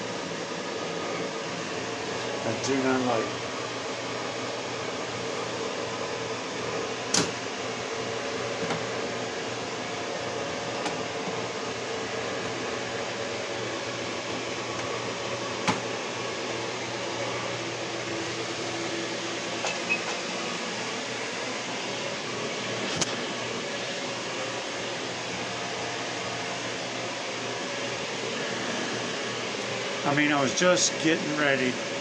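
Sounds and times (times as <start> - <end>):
fan running steadily: 0.0 - 32.0.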